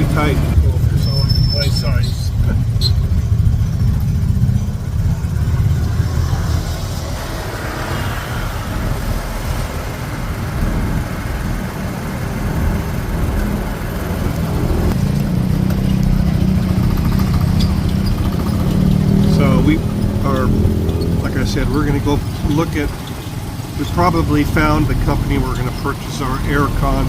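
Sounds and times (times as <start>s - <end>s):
motorcycle engine droning: 0.0s - 27.0s
road and wind noise: 0.0s - 27.0s.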